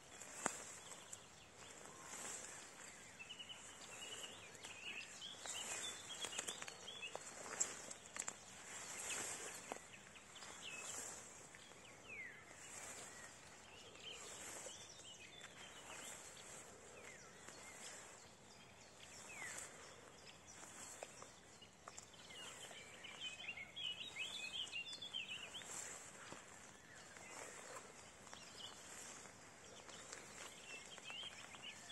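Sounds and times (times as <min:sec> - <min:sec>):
birds chirping and singing: 0:00.0 - 0:31.9
footsteps swishing through grass: 0:00.0 - 0:31.9.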